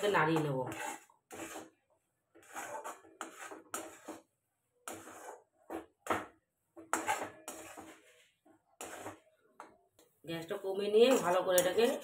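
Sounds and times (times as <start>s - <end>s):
steel spatula scraping dough in pan: 0.0s - 9.8s, 10.8s - 12.0s.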